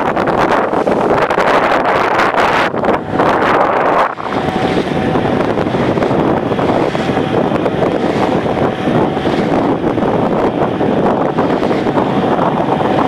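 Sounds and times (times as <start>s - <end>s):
water washing past hull: 0.0s - 13.0s
wind buffeting microphone: 0.0s - 13.0s.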